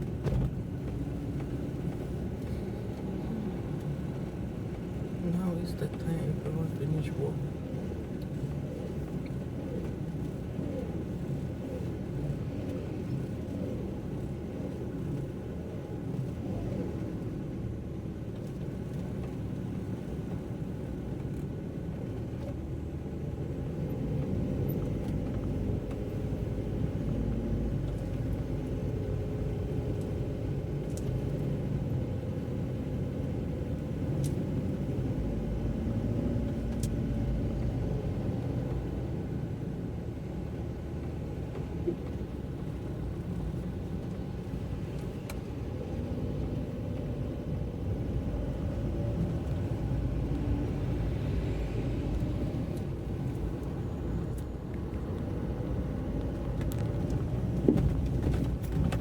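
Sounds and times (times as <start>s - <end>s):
car driving on wet road: 0.0s - 59.0s.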